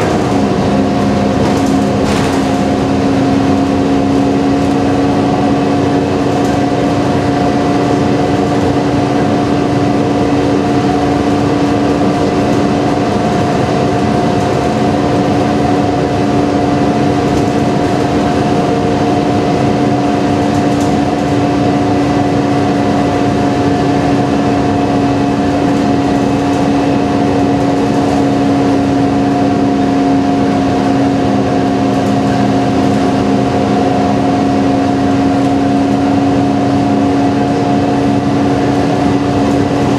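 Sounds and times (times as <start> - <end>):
bus cabin drone: 0.0 - 39.9
road noise: 0.0 - 39.9.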